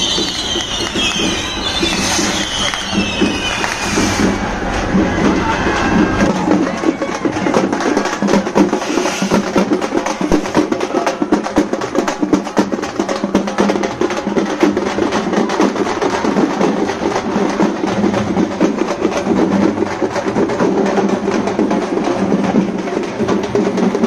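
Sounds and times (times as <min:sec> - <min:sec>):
frame drums beaten with sticks: 0:00.0 - 0:24.0.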